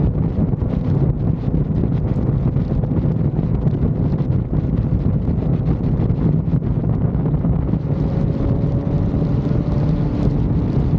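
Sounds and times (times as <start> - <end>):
low engine drone: 0.0 - 10.9
wind buffeting microphone: 0.0 - 10.9.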